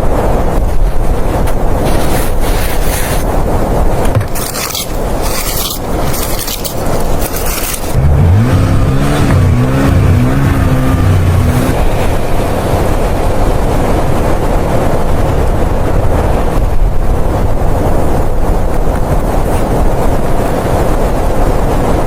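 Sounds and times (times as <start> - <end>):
blizzard wind blowing hard: 0.0 - 22.0.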